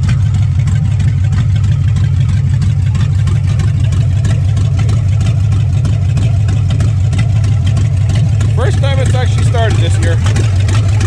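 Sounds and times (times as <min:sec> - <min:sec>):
car engine idling loudly: 0:00.0 - 0:11.0.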